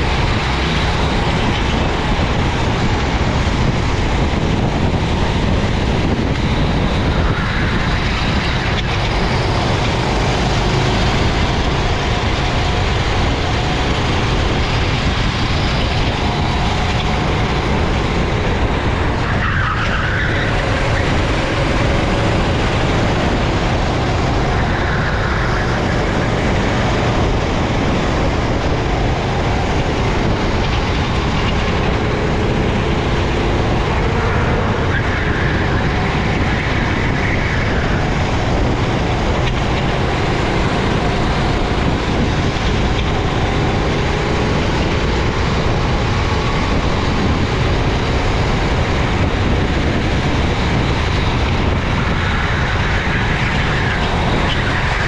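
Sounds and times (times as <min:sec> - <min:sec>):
kart engine running hard: 0:00.0 - 0:55.0
wind and road noise: 0:00.0 - 0:55.0.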